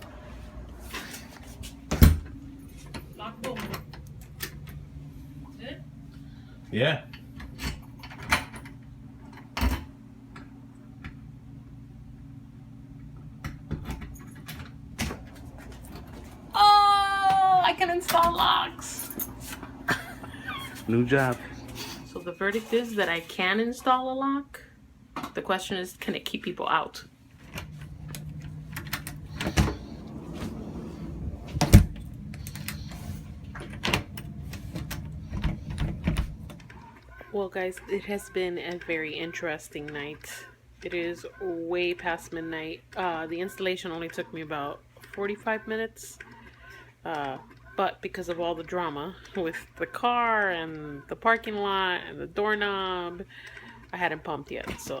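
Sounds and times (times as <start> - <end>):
steady low hum: 0.0 - 23.9, 24.5 - 45.1.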